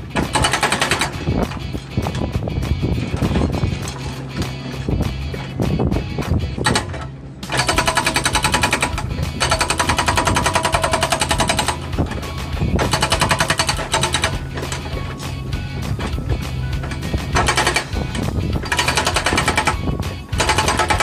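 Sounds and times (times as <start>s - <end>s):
hydraulic breaker hammering concrete: 0.0s - 2.3s, 6.2s - 21.0s.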